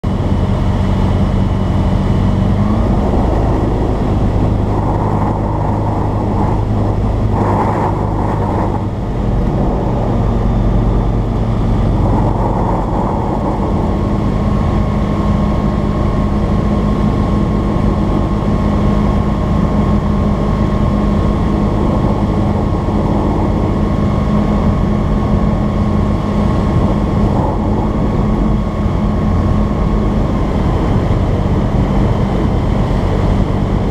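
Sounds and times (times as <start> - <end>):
light aircraft engine running: 0.0 - 33.9
wind and airflow noise: 0.0 - 33.9.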